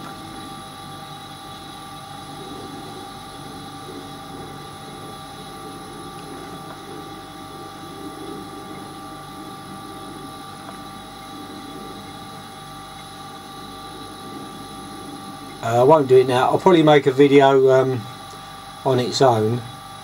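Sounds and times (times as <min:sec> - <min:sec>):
machine hum with low drone: 0:00.0 - 0:20.0.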